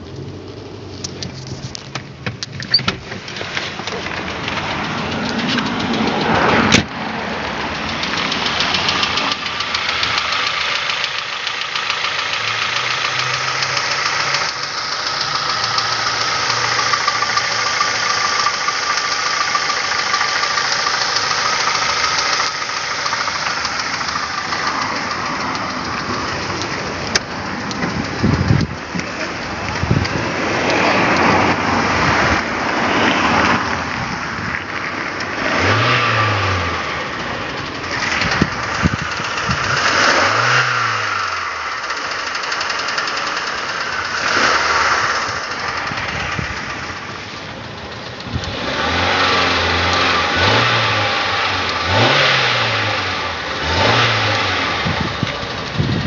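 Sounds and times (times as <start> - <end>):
engine running with heavy knock: 0.0 - 56.0.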